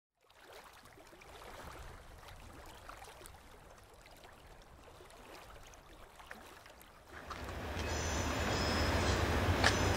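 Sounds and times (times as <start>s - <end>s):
water trickling and gurgling: 0.2s - 8.9s.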